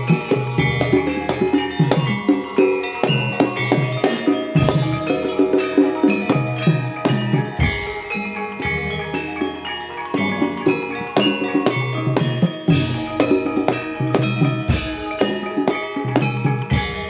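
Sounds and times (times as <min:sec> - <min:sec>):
gamelan metallophones: 0:00.0 - 0:17.0
hand drums: 0:00.0 - 0:17.0.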